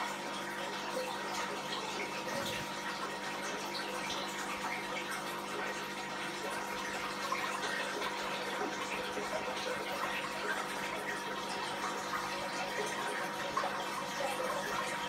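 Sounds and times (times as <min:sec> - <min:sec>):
aquarium water trickling and bubbling: 0:00.0 - 0:15.0
filter pump hum: 0:00.0 - 0:15.0.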